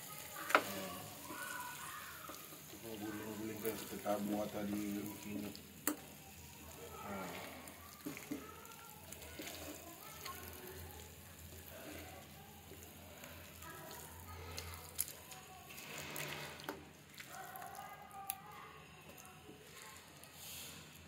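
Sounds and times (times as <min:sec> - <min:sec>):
chicken sizzling in a frying pan: 0:00.0 - 0:16.6, 0:19.6 - 0:21.0.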